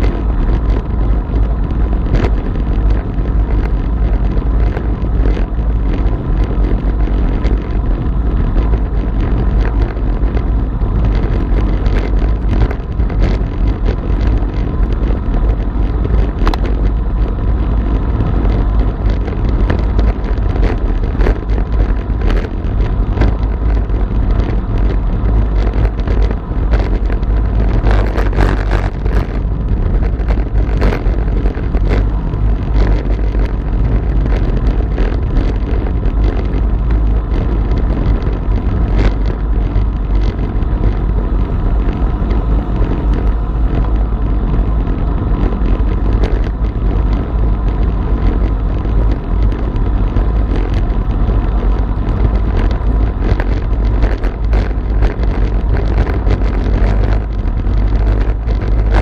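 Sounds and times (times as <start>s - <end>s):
bicycle tyres on road: 0.0s - 59.0s
wind buffeting microphone: 0.0s - 59.0s.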